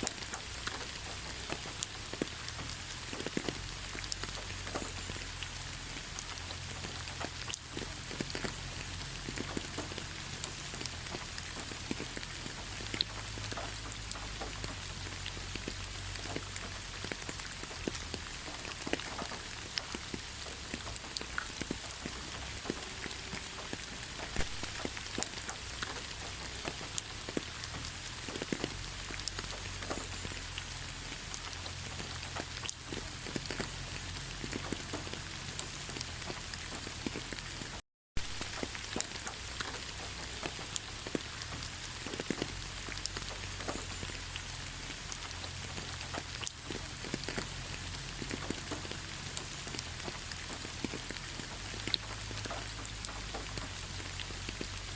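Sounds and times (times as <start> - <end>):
gentle rain falling: 0.0 - 54.9
raindrops ticking on surface: 0.0 - 54.9.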